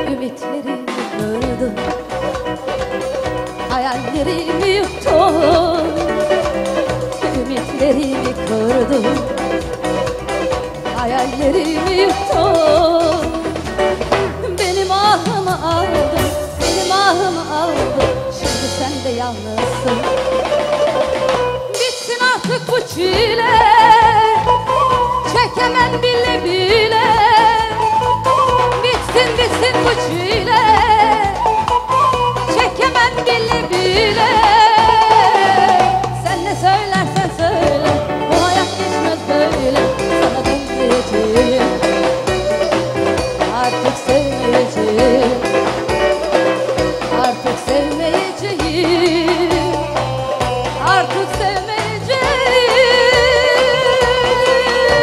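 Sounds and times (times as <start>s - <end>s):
band with drum kit beat: 0.0s - 55.0s
woman singing into microphone: 0.0s - 55.0s.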